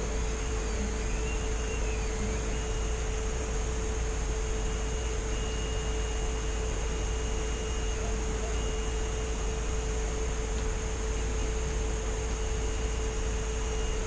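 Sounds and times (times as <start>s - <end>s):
background hum and hiss: 0.0s - 14.0s
constant mid-pitched tone: 0.0s - 14.0s.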